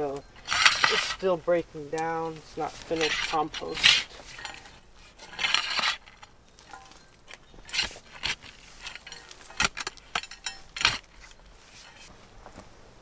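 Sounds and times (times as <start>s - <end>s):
compost scraping and rustling: 0.0s - 13.0s.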